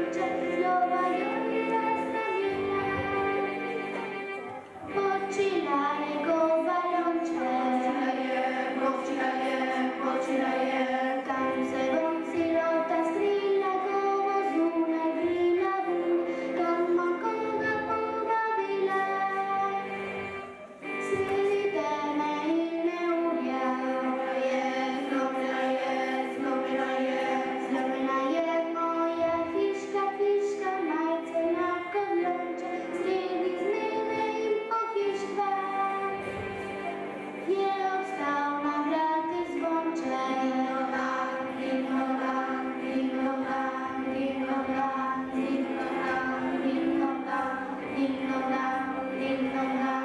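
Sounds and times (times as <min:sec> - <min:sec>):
child singing: 0:00.0 - 0:50.0
instrumental accompaniment: 0:00.0 - 0:50.0.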